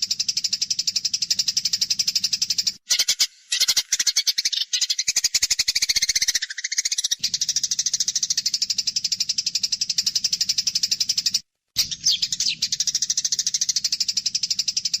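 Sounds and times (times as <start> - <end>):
sparrows chattering harshly: 0.0 - 15.0.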